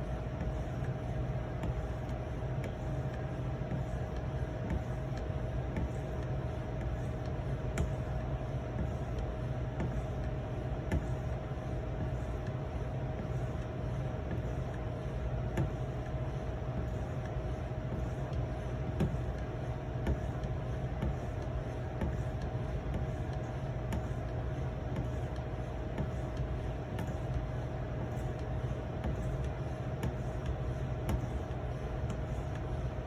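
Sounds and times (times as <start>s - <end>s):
low hum with mid-pitched tone: 0.0s - 33.0s.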